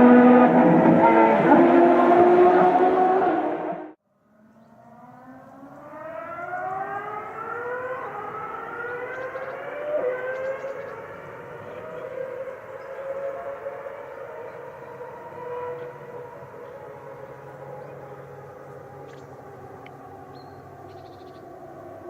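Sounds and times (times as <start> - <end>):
distant racing car engine: 0.0 - 22.0.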